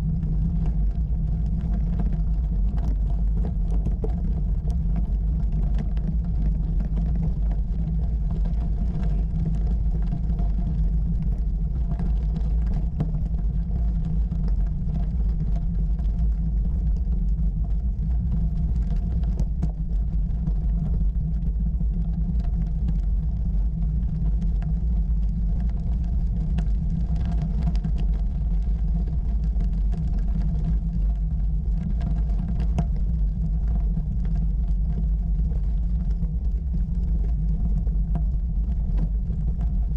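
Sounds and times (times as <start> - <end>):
bicycle rumbling on gravel: 0.0 - 39.9
stones clicking under tyres: 0.0 - 39.9.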